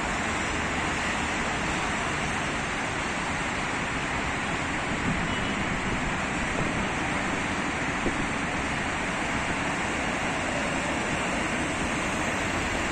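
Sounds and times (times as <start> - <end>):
road traffic hiss and rumble: 0.0 - 12.9.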